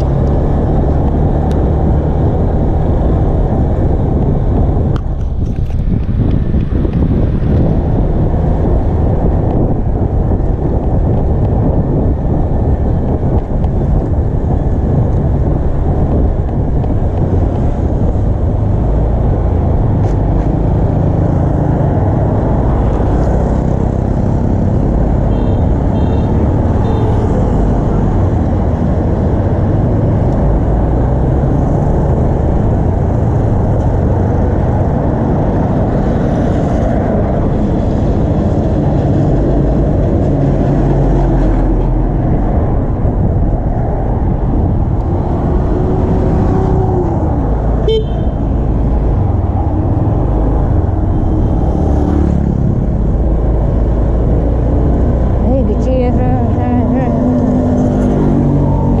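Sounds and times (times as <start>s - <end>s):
road traffic rumble: 0.0s - 59.0s
wind on microphone: 0.0s - 59.0s.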